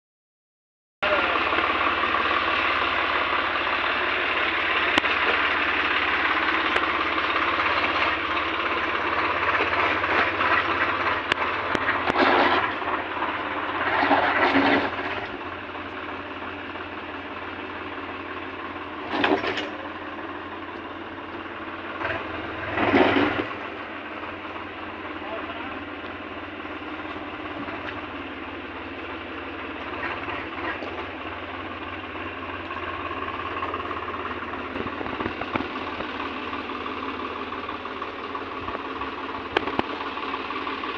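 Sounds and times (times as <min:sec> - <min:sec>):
tractor diesel engine revving: 0:01.0 - 0:40.9.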